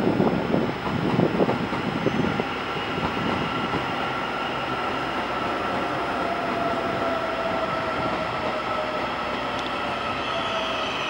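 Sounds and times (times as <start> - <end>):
train rolling past: 0.0 - 11.0
high-pitched train tone: 1.6 - 11.0.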